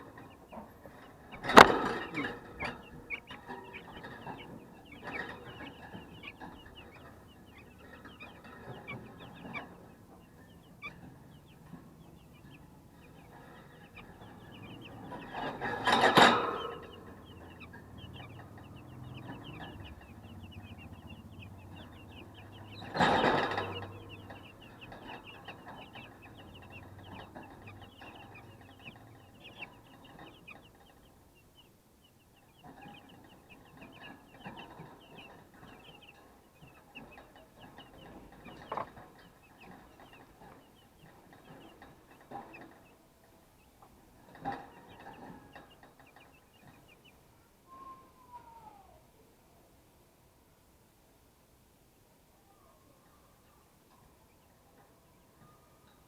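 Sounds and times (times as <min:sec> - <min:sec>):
chicks peeping: 0:00.0 - 0:49.0, 0:52.6 - 0:56.0.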